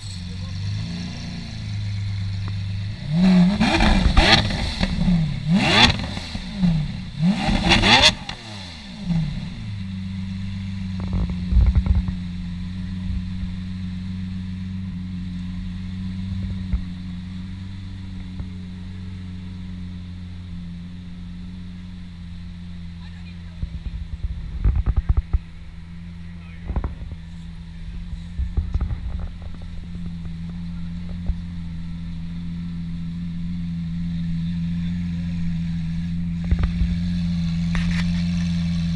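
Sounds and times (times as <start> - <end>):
exhaust cracks: 0.0 - 12.8, 13.5 - 38.9
car engine idling: 0.0 - 38.9
car engine revving: 0.0 - 38.9.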